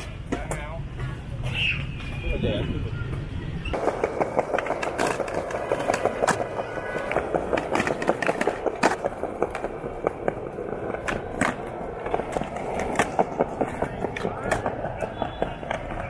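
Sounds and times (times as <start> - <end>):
skateboard clacking on ground: 0.0 - 2.0, 3.1 - 16.0
skateboard wheels rolling on pavement: 0.0 - 16.0.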